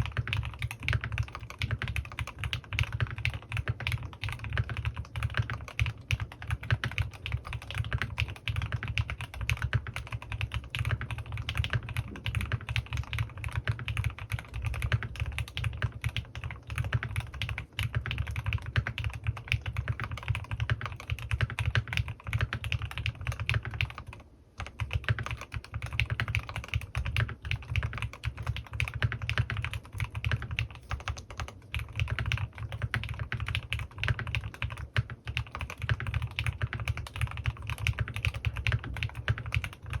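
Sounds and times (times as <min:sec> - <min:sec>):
fast mechanical keyboard typing: 0:00.0 - 0:40.0.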